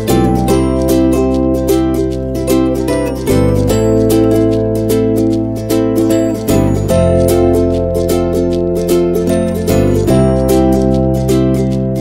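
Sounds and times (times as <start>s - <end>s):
upbeat plucked-string tune: 0.0s - 12.0s.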